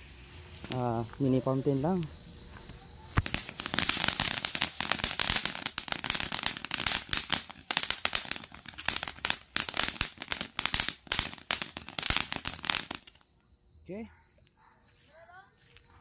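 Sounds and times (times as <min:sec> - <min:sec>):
firework fountain hissing and crackling: 0:00.0 - 0:13.2.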